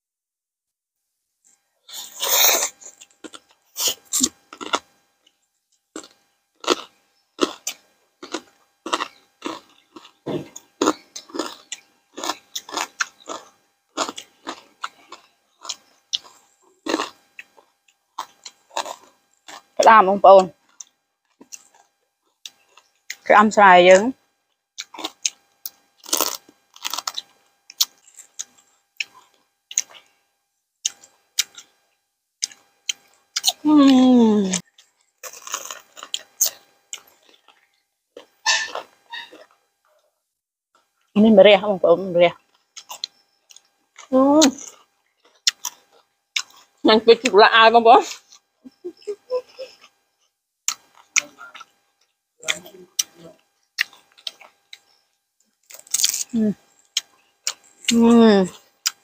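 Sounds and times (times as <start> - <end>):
wet chewing sounds: 1.5 - 23.3, 24.8 - 30.1, 30.8 - 31.8, 32.4 - 33.6, 34.5 - 39.6, 42.3 - 47.3, 48.0 - 59.0.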